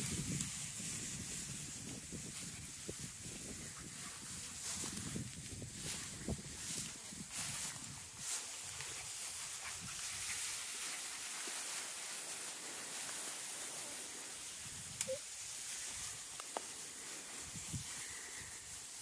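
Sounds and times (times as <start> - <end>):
grass rustling and swishing: 0.0 - 19.0.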